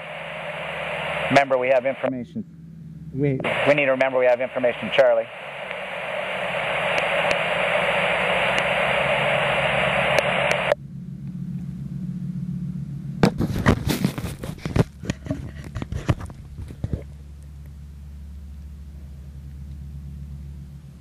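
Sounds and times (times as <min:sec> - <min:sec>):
radio hiss with low hum: 0:00.0 - 0:02.4, 0:03.0 - 0:10.8, 0:13.2 - 0:20.0.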